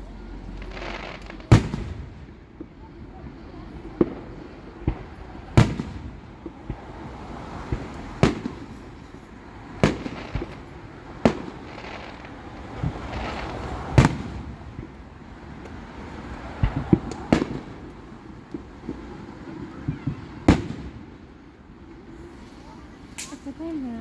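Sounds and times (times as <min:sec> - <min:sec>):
fireworks bangs: 0:00.0 - 0:24.0
fireworks crackling: 0:00.0 - 0:24.0
small firework pops: 0:00.4 - 0:23.8.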